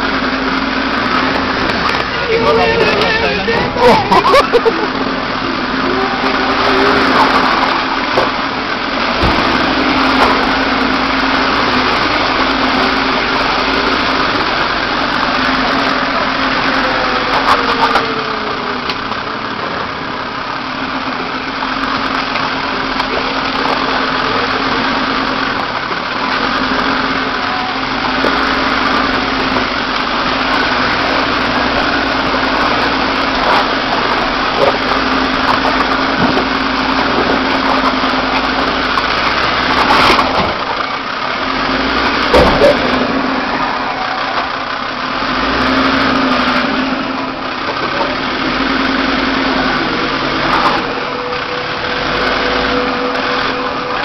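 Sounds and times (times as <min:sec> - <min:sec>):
car engine at low revs: 0:00.0 - 0:54.0.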